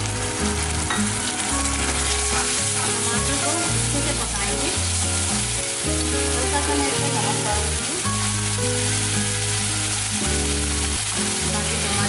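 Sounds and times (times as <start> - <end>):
background music: 0.0 - 12.0
vegetables sizzling in hot oil: 0.0 - 12.0.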